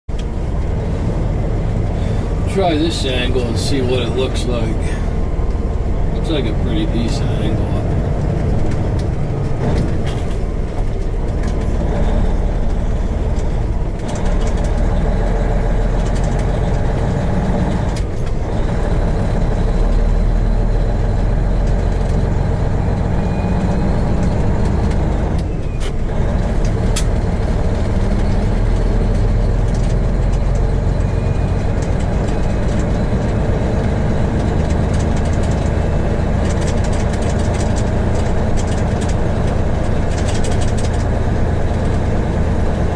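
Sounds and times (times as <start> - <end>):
truck diesel engine droning: 0.1 - 42.9.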